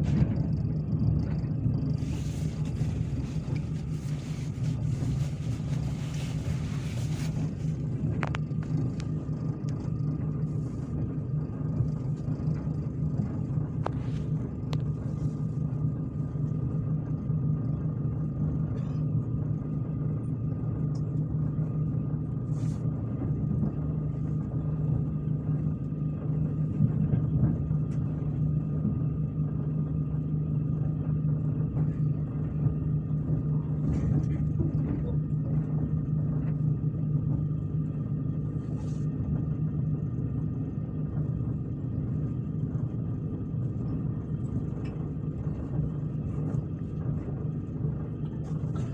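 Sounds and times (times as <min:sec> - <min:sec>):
faint steady whine: 0:00.0 - 0:48.9
train carriage rumble: 0:00.0 - 0:48.9.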